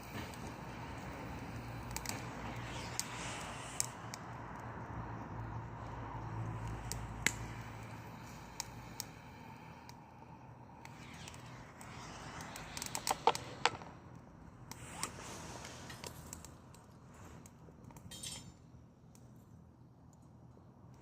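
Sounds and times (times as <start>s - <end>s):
soft rush of flame: 0.0s - 18.1s.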